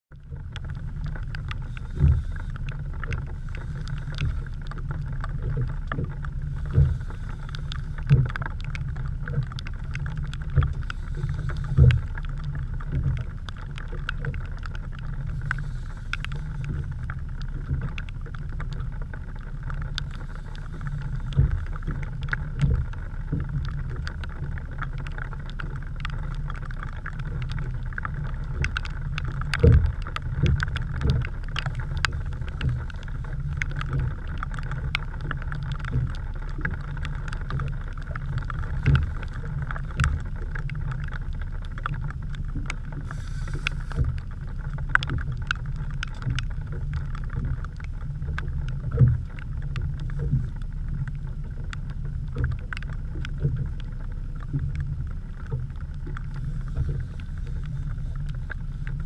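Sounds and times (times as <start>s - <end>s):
raindrops ticking on camera: 0.1s - 59.0s
wind rumble on microphone: 0.1s - 59.0s.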